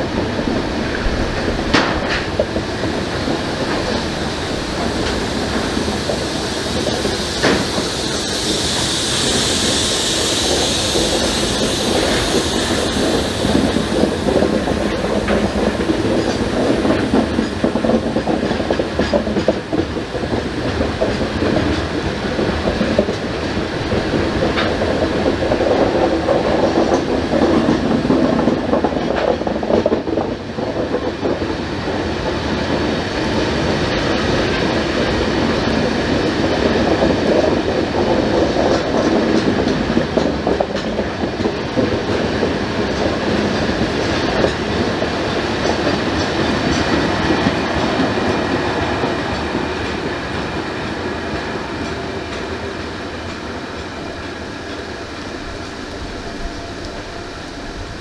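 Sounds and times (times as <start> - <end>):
train wheels rumbling: 0.0 - 58.0
wheels clicking over rail joints: 0.1 - 58.0.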